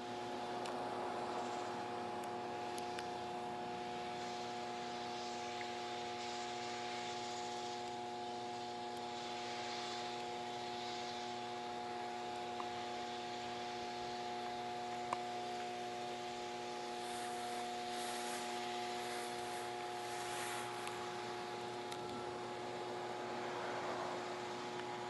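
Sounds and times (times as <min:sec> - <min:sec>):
background hiss: 0:00.0 - 0:25.0
electrical hum: 0:00.0 - 0:25.0.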